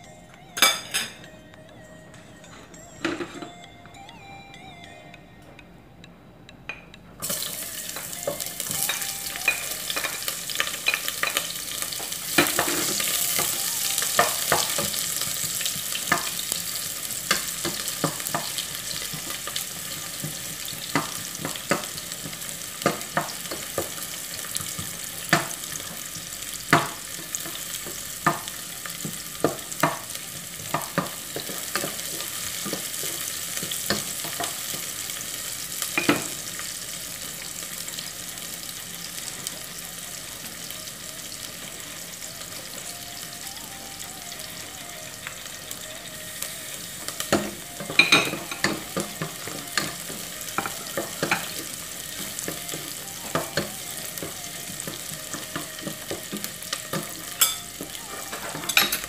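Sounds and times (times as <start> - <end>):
onion and garlic sizzling in oil: 7.2 - 59.0.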